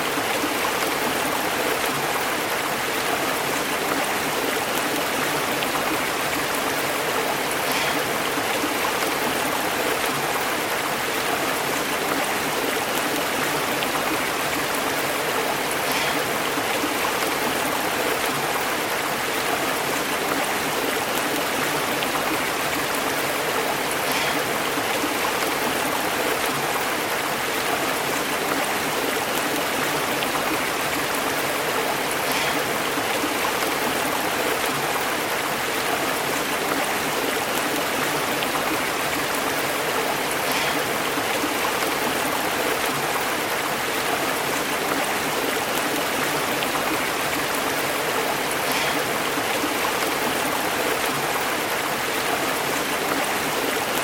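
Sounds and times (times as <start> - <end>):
stream burbling over rocks: 0.0 - 54.0.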